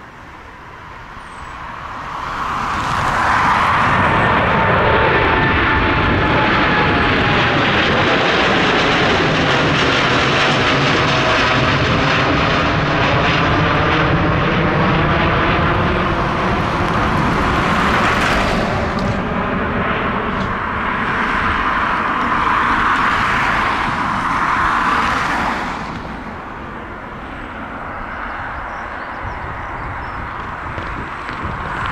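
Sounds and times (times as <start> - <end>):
jet engines at takeoff: 0.0 - 31.9.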